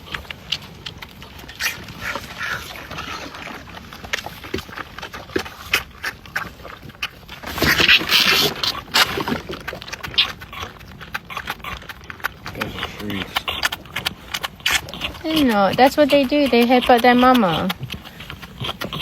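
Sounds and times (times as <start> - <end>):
young animals snuffling: 0.0 - 19.0.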